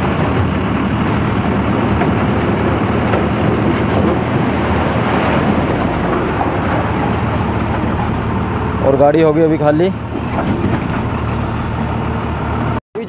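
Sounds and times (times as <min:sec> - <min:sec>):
heavy diesel engines running: 0:00.0 - 0:13.0.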